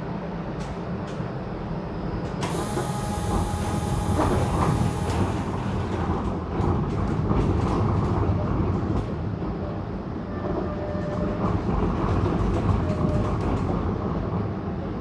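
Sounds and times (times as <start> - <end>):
streetcar rumble: 0.0 - 15.0.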